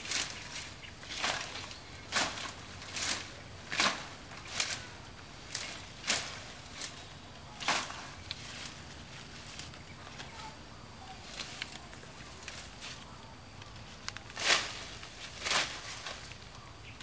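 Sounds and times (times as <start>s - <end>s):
dry leaves rustling and crackling: 0.0s - 17.0s.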